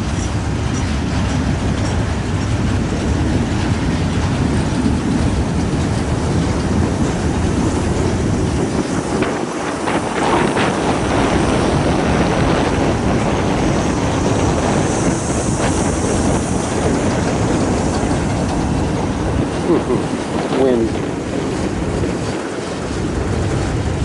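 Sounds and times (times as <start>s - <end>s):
freight train rolling on rails: 0.0s - 24.0s.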